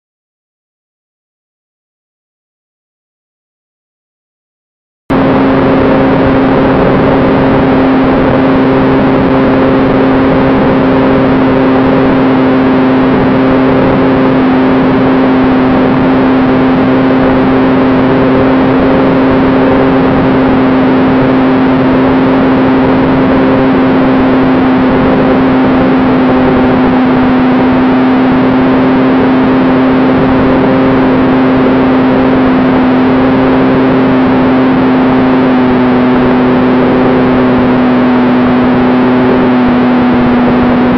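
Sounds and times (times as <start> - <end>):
ducted fan motor humming: 5.1 - 40.9.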